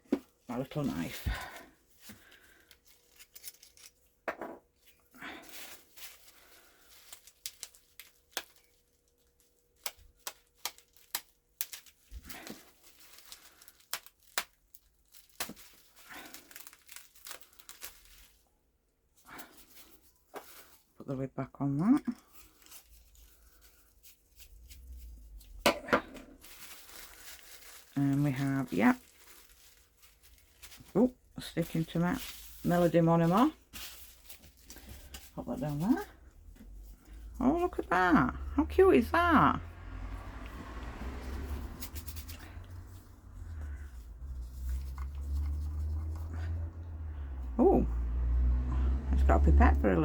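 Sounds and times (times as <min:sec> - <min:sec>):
faint rustling of packaging: 0:00.0 - 0:38.4, 0:39.2 - 0:48.7.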